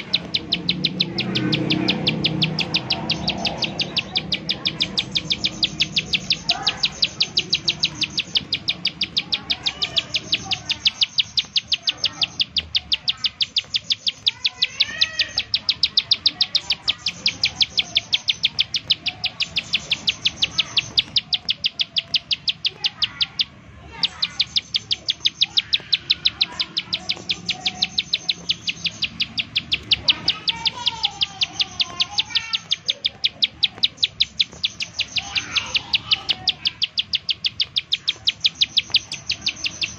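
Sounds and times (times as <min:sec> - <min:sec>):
bird sharp ticking call: 0:00.0 - 0:39.9
soft warbled bird notes: 0:00.0 - 0:39.9.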